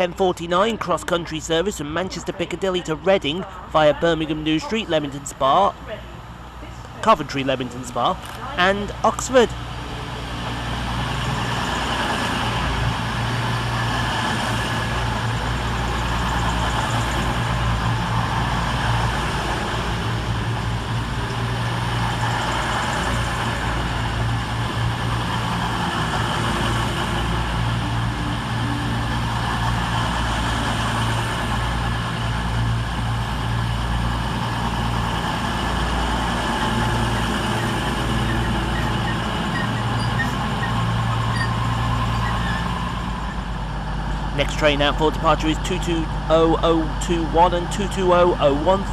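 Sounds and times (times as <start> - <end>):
train diesel engine: 0.0 - 48.9.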